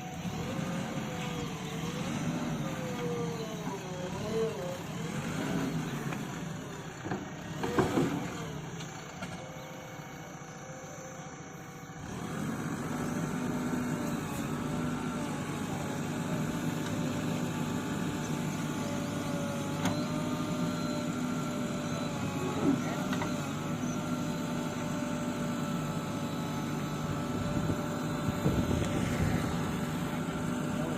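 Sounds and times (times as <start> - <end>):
motor humming: 0.0 - 30.9.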